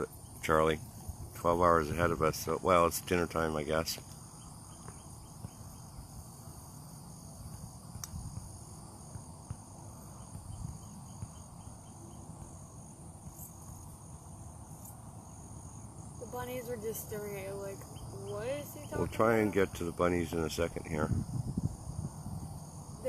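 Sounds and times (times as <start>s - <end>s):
insect pulsing call: 0.0s - 23.0s
insects singing: 0.0s - 23.0s.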